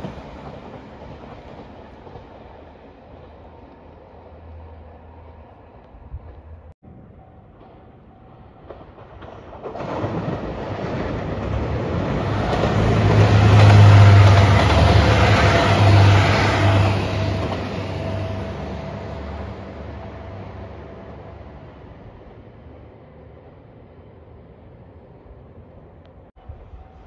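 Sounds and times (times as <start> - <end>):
diesel train engine drone: 0.0 - 27.0.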